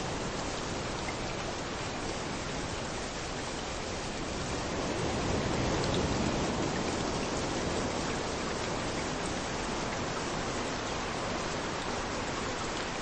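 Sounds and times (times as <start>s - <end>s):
rain hissing on a beach: 0.0s - 13.0s
waves washing on shore: 1.9s - 13.0s.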